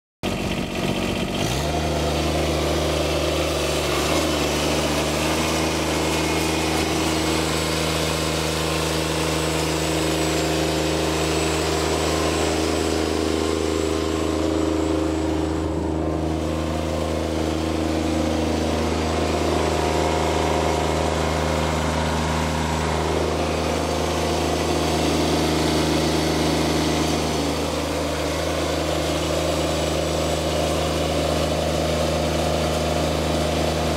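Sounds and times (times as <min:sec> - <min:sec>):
diesel mower engine running: 0:00.2 - 0:33.9.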